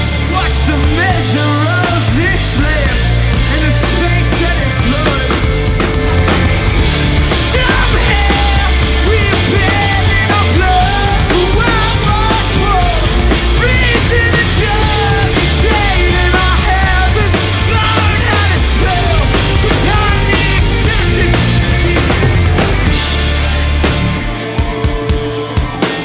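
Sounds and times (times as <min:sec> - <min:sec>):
rock band playing loudly: 0:00.0 - 0:26.0.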